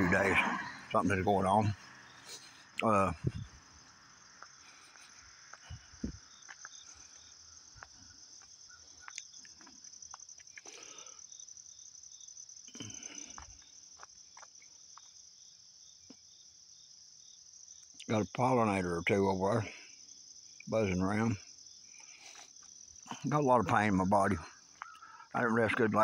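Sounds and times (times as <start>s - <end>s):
high-pitched insect chorus: 0.0s - 26.0s
insect chirping in pulses: 0.0s - 26.0s.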